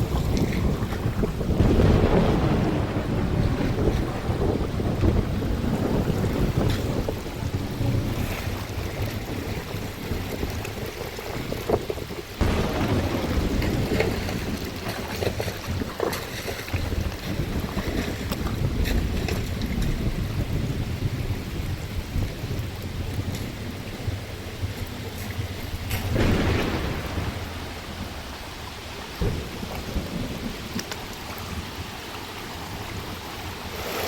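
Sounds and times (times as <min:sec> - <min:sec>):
floodwater rushing: 0:00.0 - 0:34.0
heavy rain: 0:00.0 - 0:34.0
wind buffeting the microphone: 0:00.0 - 0:34.0.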